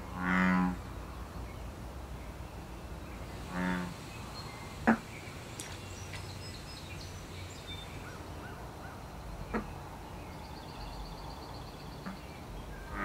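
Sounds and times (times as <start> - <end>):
birds chirping: 0.0 - 13.0
pond-side ambience: 0.0 - 13.0.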